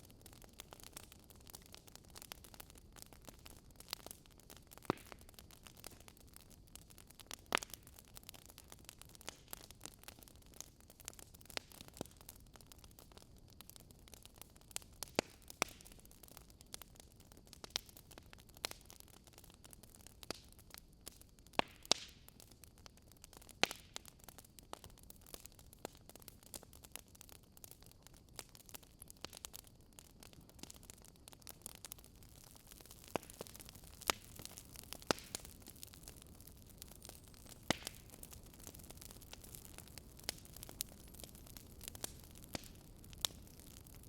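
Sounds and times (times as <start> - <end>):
burning logs crackling: 0.0 - 44.0
faint steady hiss: 0.0 - 44.0
fire pops and snaps: 0.0 - 44.0.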